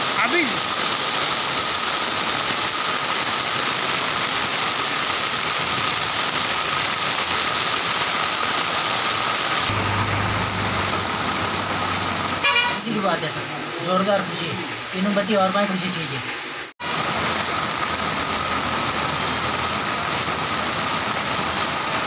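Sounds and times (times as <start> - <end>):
heavy rain pouring on street: 0.0 - 22.0.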